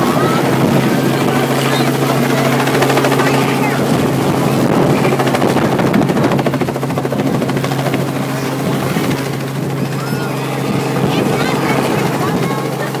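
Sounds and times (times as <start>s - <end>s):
helicopter engine drone: 0.0s - 13.0s
helicopter rotor beating: 0.0s - 13.0s.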